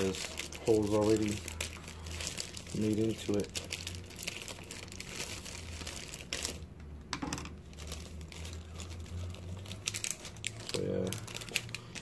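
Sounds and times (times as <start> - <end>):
crinkling and rustling: 0.0 - 6.6, 7.4 - 12.0.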